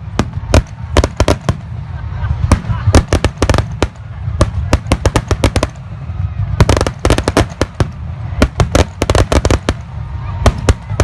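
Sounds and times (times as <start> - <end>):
fireworks cracking: 0.0 - 11.0
low rumble: 0.0 - 11.0.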